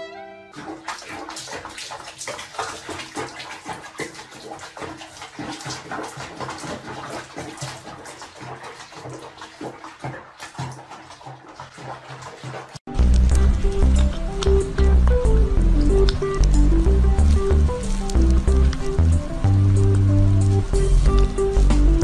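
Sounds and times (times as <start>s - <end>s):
water splashing in a basin: 0.5s - 22.0s.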